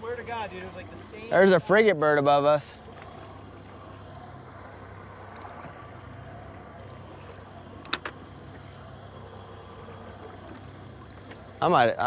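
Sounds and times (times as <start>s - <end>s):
boat hum on water: 0.0s - 12.0s.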